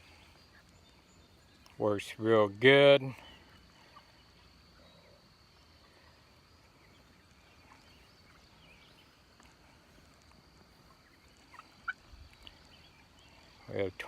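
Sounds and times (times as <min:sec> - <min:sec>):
chicks chirping softly: 0:00.0 - 0:14.0.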